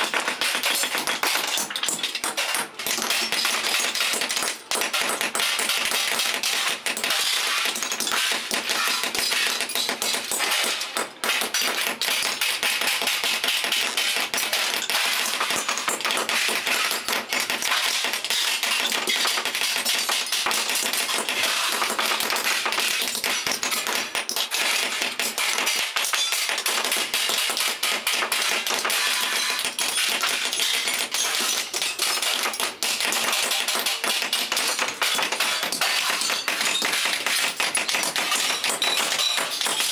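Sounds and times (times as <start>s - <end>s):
hammers tapping on steel: 0.0s - 39.9s.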